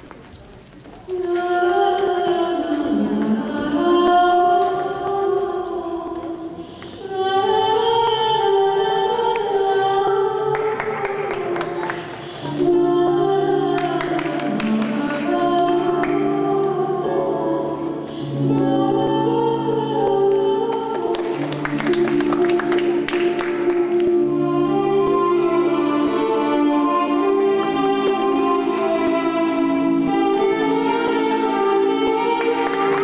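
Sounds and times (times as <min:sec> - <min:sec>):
music with long held sung notes: 0:01.1 - 0:33.0.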